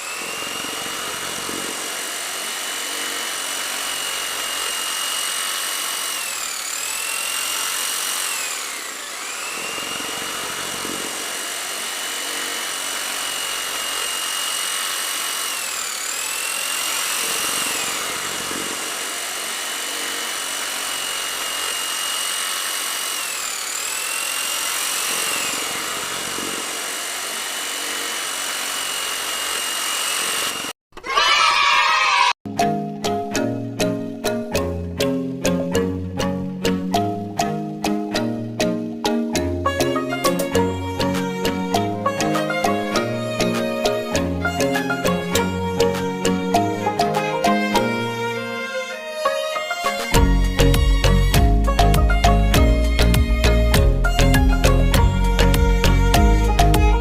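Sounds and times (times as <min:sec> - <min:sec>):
small electric motor whining: 0:00.0 - 0:31.2, 0:39.7 - 0:57.0.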